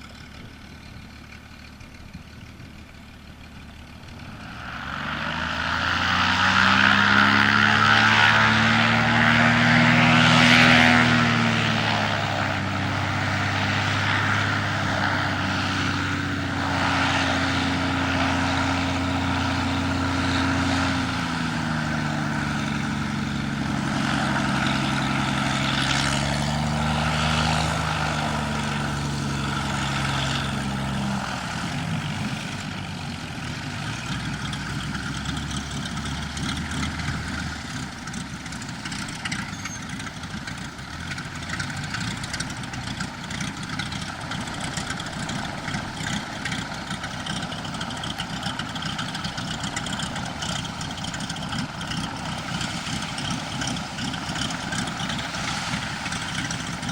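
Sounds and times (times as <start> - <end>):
propeller plane engine flying by: 0.0 - 56.9.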